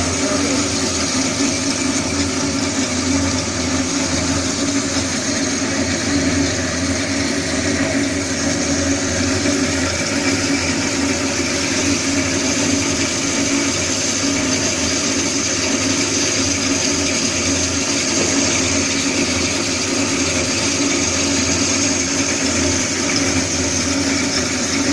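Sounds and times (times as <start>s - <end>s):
band saw running: 0.0s - 24.9s.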